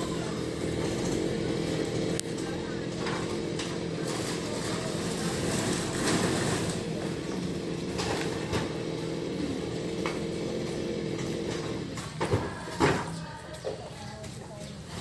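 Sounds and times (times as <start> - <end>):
chainsaw engine idling: 0.0 - 12.5.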